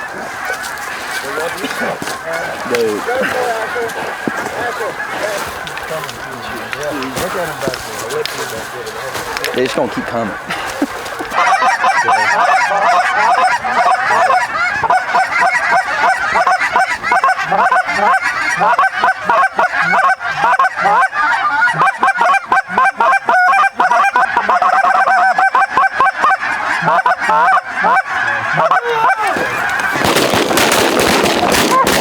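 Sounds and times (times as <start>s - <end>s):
flock of geese honking: 0.0s - 32.0s.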